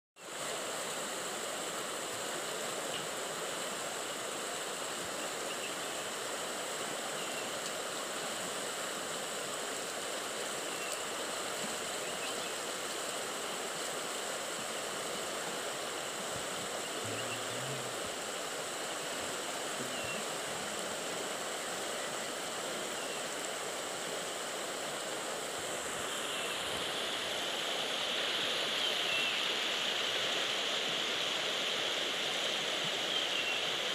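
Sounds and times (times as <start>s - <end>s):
river rushing over stones: 0.2s - 33.9s.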